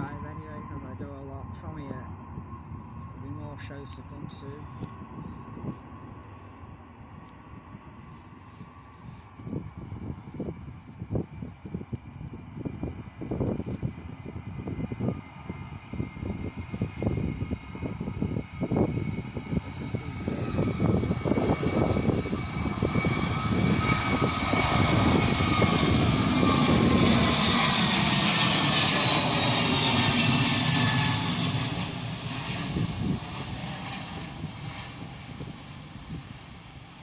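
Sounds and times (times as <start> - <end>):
jet airliner roar: 0.0 - 37.0
jet engine whine: 0.0 - 37.0.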